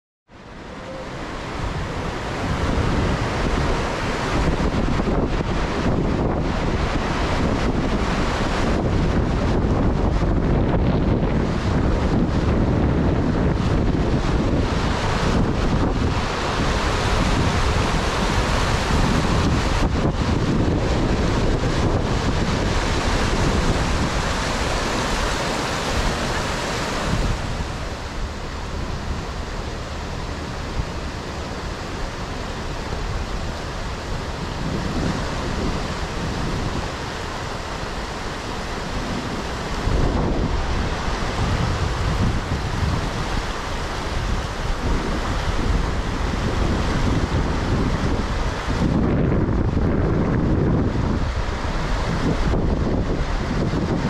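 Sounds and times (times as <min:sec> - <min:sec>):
rushing river water: 0:00.3 - 0:54.0
wind buffeting the microphone: 0:00.3 - 0:54.0.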